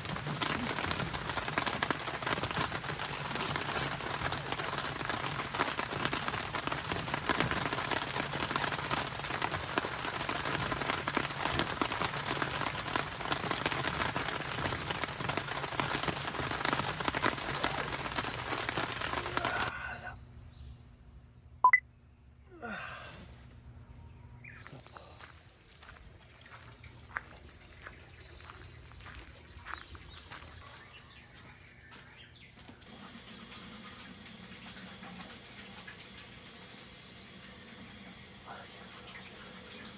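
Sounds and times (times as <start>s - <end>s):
rain pattering: 0.0s - 19.7s, 25.2s - 30.9s, 32.8s - 39.9s.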